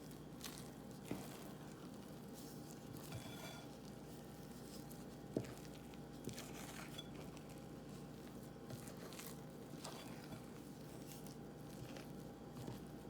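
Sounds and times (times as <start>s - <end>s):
utensil working batter in bowl: 0.0s - 13.0s.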